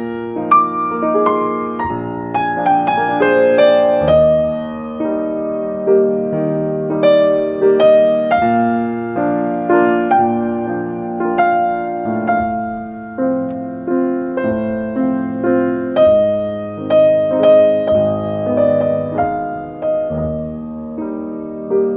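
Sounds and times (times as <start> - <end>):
gentle piano chords: 0.0 - 21.9.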